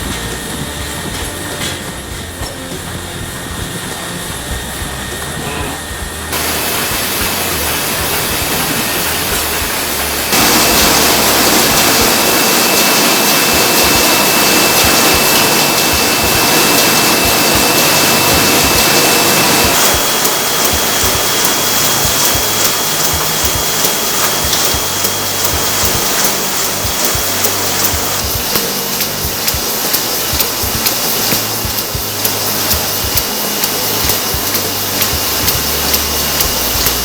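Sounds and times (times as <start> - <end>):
faint high whine: 0.0 - 37.0
printing machinery running: 0.0 - 37.0.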